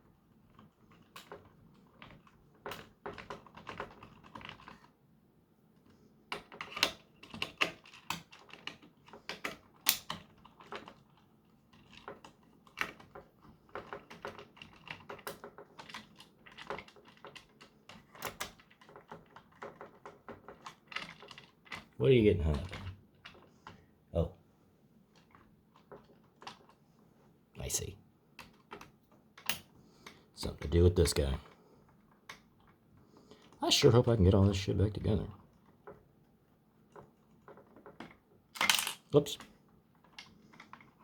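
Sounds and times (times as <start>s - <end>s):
plastic parts clicking and rattling: 0.1s - 5.0s, 5.8s - 24.3s, 25.0s - 27.0s, 27.6s - 33.8s, 34.4s - 41.0s.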